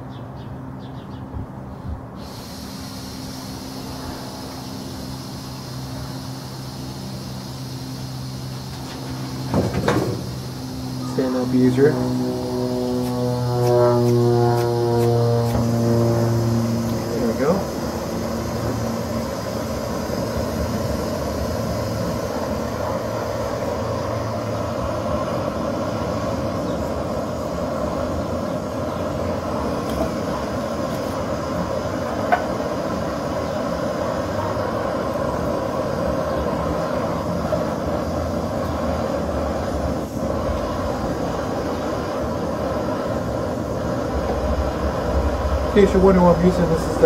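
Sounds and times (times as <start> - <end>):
camping stove hissing: 2.1 - 47.0.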